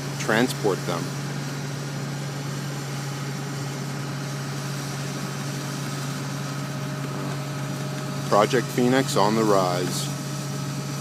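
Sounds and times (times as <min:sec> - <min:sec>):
crane engine droning: 0:00.0 - 0:11.0.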